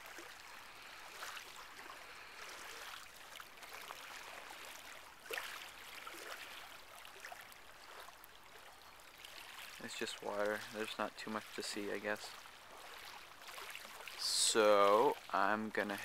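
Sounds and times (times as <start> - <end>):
river water trickling: 0.0 - 16.0.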